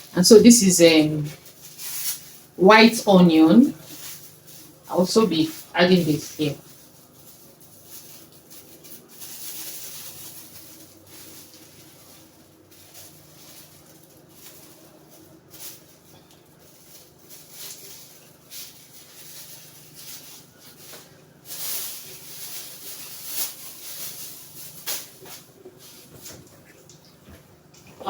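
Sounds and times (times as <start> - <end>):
rustling: 1.2 - 2.6, 3.7 - 27.2.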